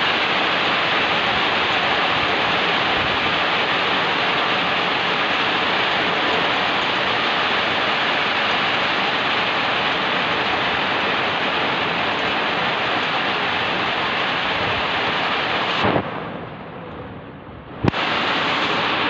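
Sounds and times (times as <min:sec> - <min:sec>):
heavy rain hissing: 0:00.0 - 0:16.7, 0:17.7 - 0:19.0.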